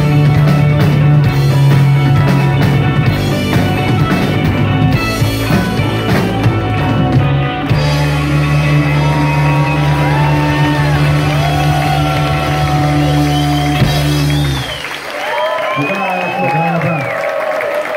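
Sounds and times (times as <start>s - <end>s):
live rock band playing: 0.0s - 15.2s.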